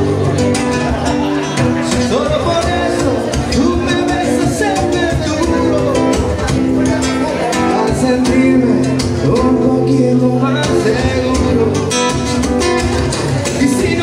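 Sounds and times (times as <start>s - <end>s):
acoustic guitar strummed: 0.0s - 14.0s
man singing: 0.0s - 14.0s.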